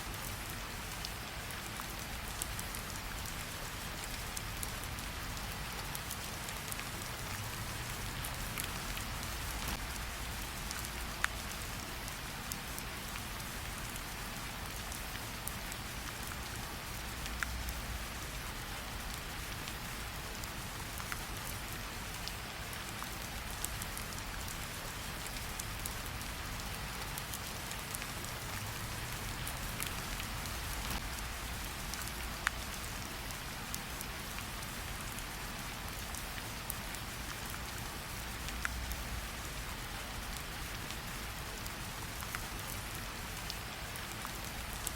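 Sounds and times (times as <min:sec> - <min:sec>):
rain falling: 0:00.0 - 0:44.9
campfire crackles: 0:00.1 - 0:44.9.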